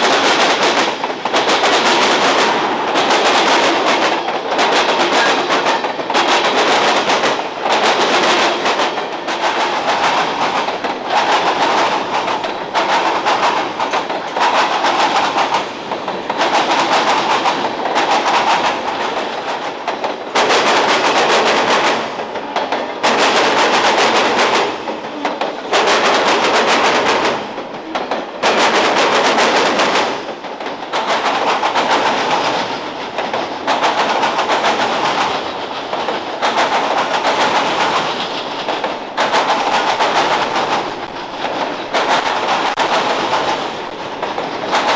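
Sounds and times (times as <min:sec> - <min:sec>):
wheels clattering over rail joints: 0:00.0 - 0:44.9.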